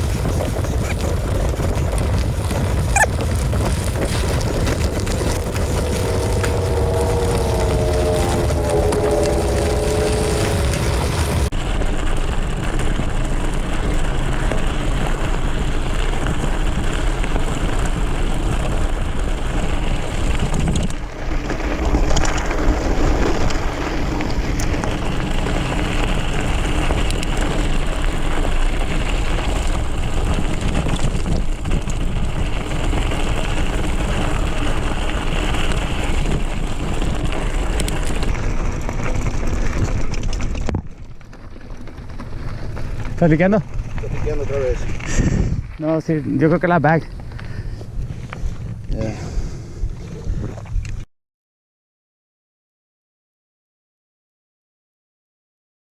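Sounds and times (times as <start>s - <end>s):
wind buffeting microphone: 0.0s - 41.3s, 41.9s - 51.1s
bike rolling over trail: 0.0s - 51.1s.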